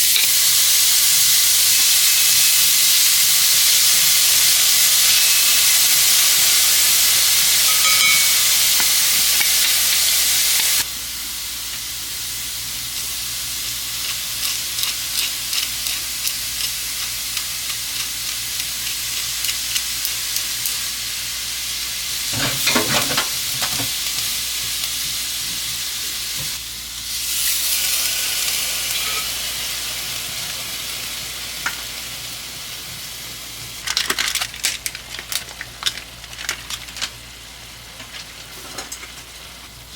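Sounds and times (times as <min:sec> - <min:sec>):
food sizzling in hot pan: 0:00.0 - 0:39.9.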